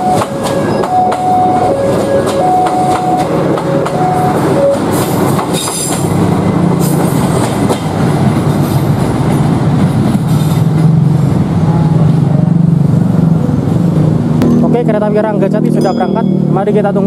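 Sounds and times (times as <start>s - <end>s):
train carriages rumbling and clattering: 0.0s - 17.0s.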